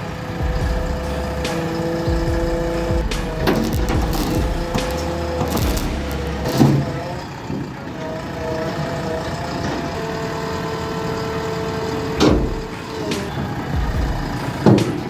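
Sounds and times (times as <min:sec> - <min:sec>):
heavy machine engine running: 0:00.0 - 0:15.0.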